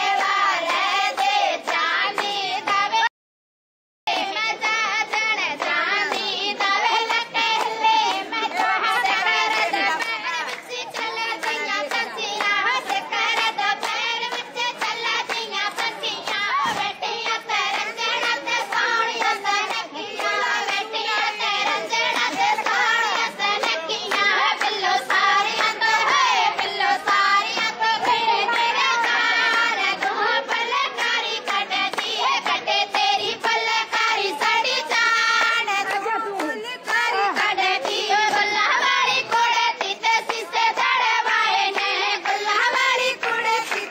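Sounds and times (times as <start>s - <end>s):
rhythmic hand clapping: 0.0s - 3.1s, 4.1s - 43.9s
women singing together: 0.0s - 3.1s, 4.1s - 43.9s.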